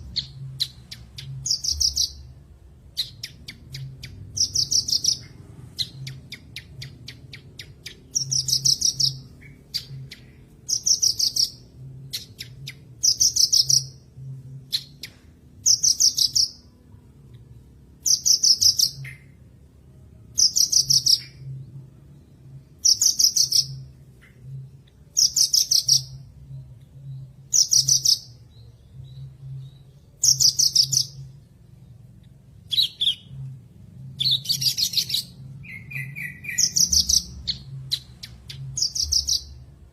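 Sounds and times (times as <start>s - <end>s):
lark singing high chirps: 0.0s - 2.3s, 3.0s - 16.7s, 18.0s - 19.4s, 20.4s - 21.5s, 22.7s - 31.5s, 32.2s - 33.4s, 34.1s - 39.8s.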